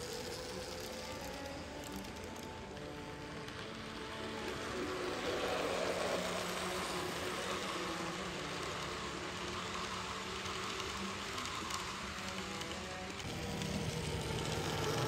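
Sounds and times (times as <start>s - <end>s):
faint motor hum: 0.0s - 15.0s
model train wheels rumbling: 0.0s - 15.0s.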